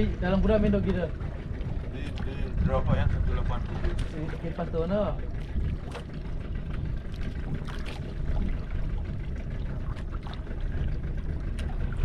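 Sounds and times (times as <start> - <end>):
boat motor rumbling: 0.0 - 12.0
water splashing against boat hull: 0.0 - 12.0
wind rumble: 0.0 - 12.0.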